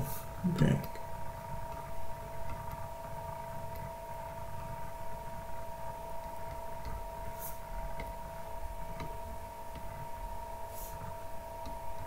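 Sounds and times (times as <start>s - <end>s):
two-tone whine: 0.0s - 12.0s.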